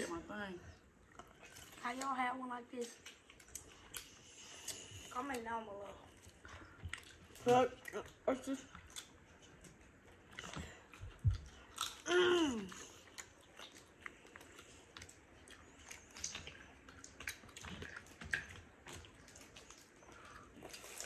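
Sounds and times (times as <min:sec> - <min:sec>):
chewing and mouth smacks: 0:01.0 - 0:21.0.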